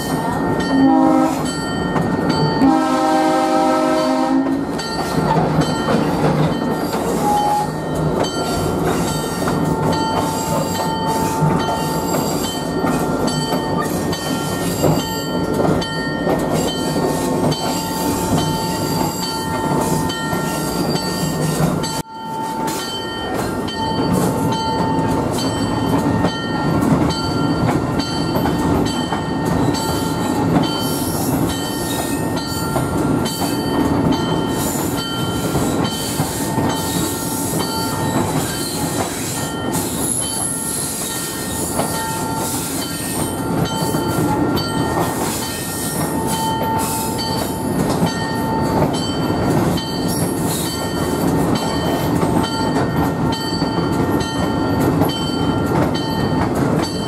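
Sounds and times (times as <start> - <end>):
train cars rumbling on track: 0.0 - 57.0.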